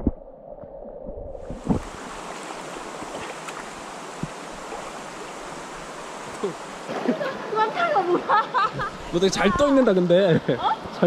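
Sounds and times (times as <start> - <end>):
stream running over stones: 0.0 - 11.0.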